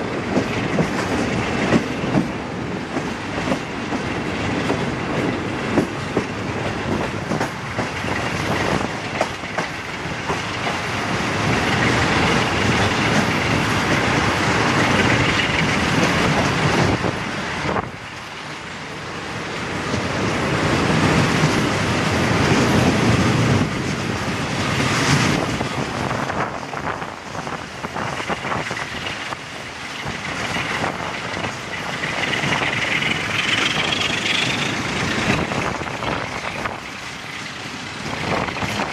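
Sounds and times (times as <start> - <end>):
train wheels rumbling on rails: 0.0 - 38.9
wheels clickety-clack over joints: 0.0 - 38.9.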